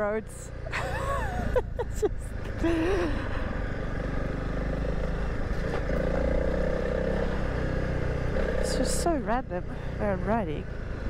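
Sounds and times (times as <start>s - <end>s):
motorcycle engine running: 0.0s - 11.0s
tires on gravel road: 0.0s - 11.0s.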